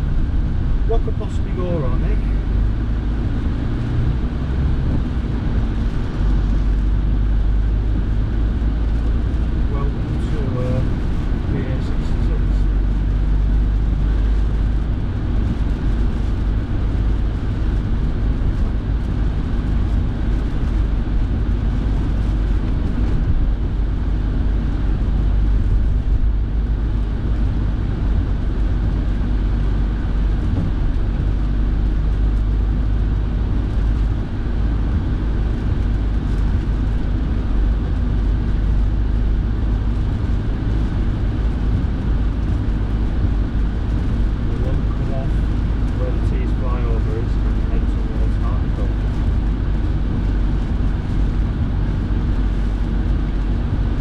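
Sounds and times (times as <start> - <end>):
engine and tyre noise on wet road: 0.0 - 54.0
heater fan blowing: 0.0 - 54.0.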